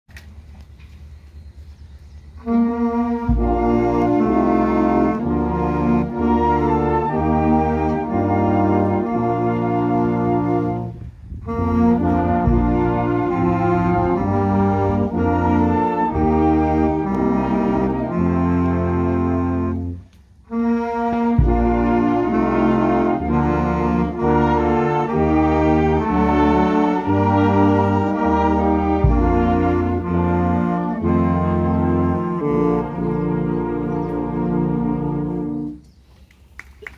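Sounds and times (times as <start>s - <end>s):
concert wind band playing: 2.2s - 35.9s.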